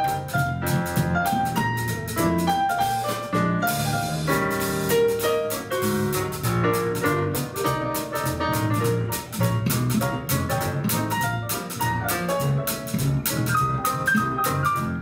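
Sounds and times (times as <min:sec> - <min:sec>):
jazz combo playing: 0:00.0 - 0:15.0.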